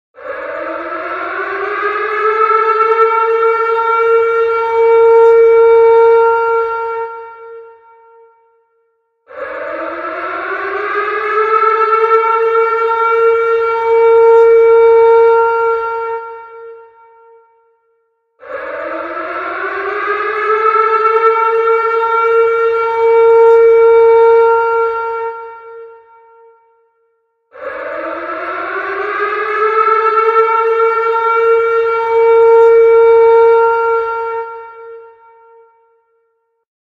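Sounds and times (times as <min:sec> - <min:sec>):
tornado siren wailing: 0:00.2 - 0:08.5, 0:09.3 - 0:17.6, 0:18.4 - 0:26.7, 0:27.5 - 0:36.0.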